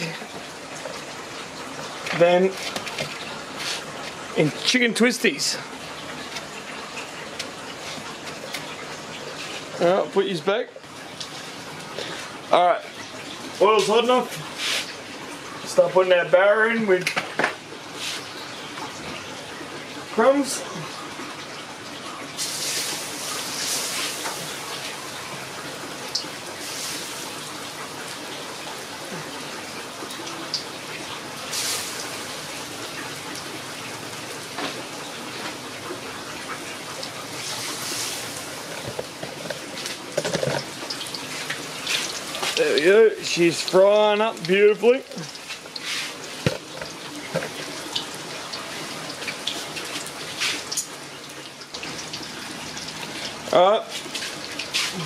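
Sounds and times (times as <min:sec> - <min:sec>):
hot oil sizzling: 0:00.0 - 0:55.0.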